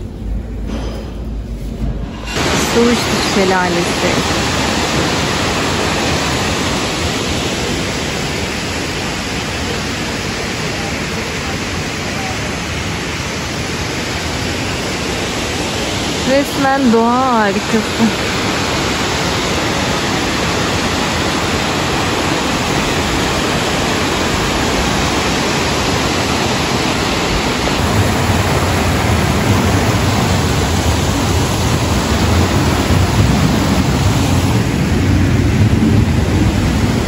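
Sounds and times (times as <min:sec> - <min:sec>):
deep rumble: 0:00.0 - 0:09.7, 0:14.2 - 0:37.0
waterfall rushing: 0:02.0 - 0:37.0
stream cascading over rocks: 0:02.2 - 0:37.0.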